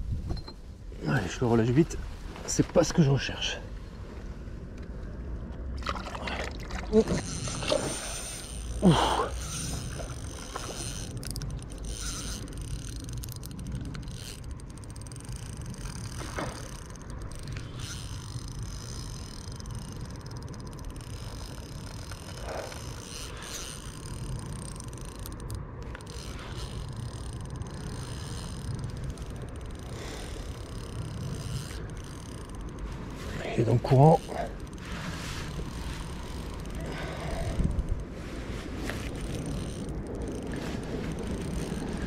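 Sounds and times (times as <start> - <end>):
fishing reel gears whirring: 6.9 - 42.0.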